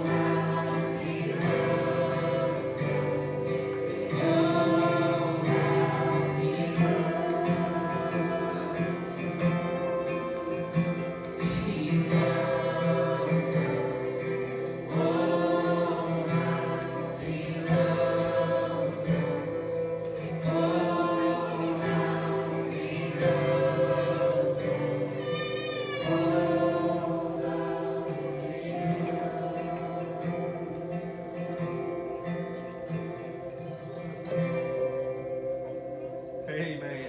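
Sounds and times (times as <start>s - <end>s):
voices singing: 0.0s - 36.8s
guitar accompaniment: 0.0s - 37.0s.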